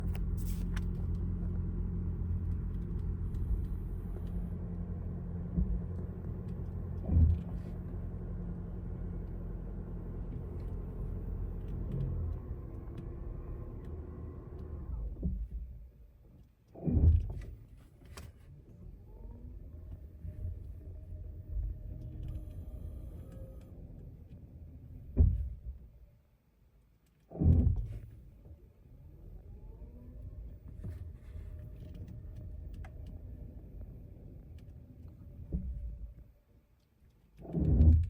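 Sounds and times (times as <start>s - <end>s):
car rolling with low rumble: 0.0s - 38.0s.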